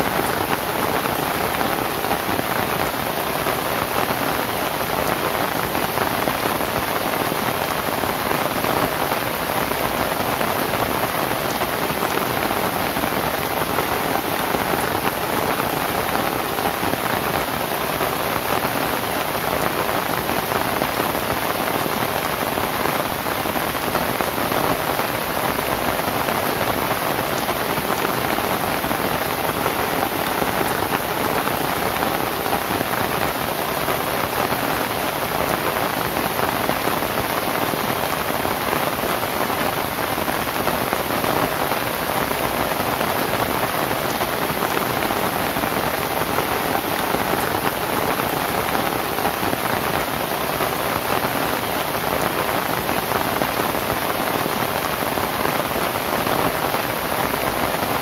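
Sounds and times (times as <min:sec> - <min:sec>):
rain on a thatched roof: 0:00.0 - 0:58.0.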